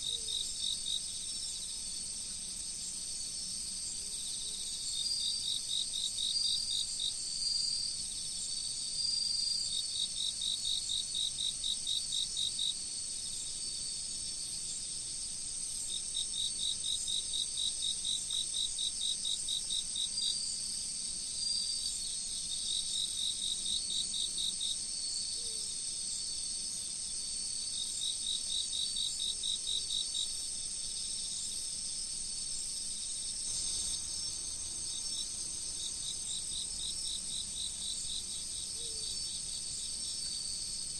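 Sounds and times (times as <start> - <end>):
insect rapid chirps: 0.0 - 40.9
steady high insect trill: 0.0 - 40.9.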